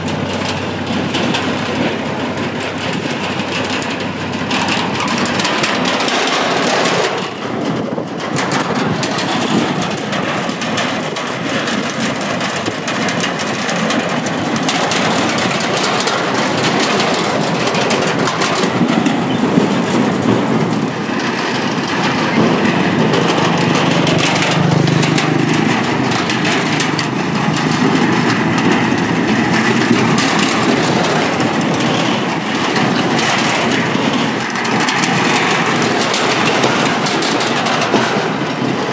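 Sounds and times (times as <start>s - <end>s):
motorbike engines: 0.0s - 38.9s
rattling bridge deck: 0.0s - 38.9s.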